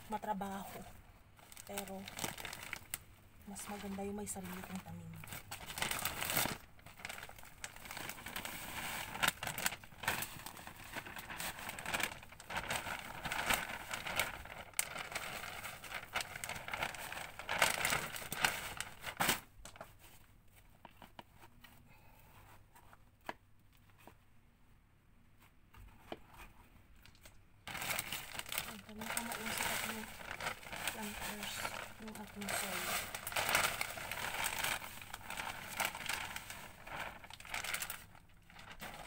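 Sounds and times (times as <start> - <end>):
plastic bag crinkling: 0.0 - 21.5, 27.0 - 39.0.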